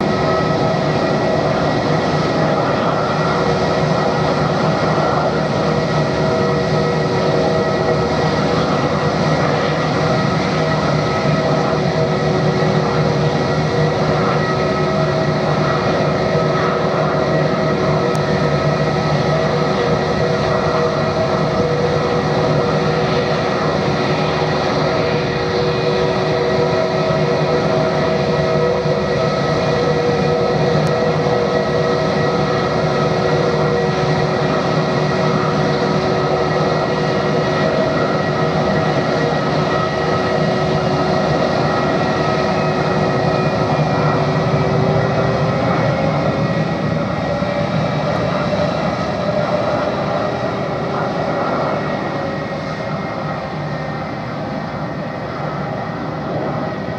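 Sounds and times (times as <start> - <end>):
high jet engine whine: 0.0 - 56.9
jet engine roar: 0.0 - 56.9.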